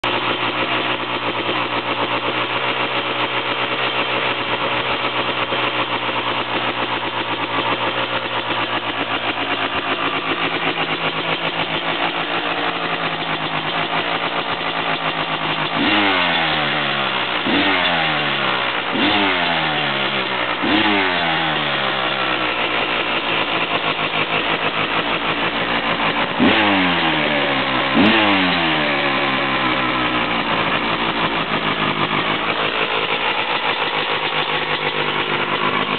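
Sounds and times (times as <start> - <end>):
two-stroke engine idling and revving: 0.0 - 35.9.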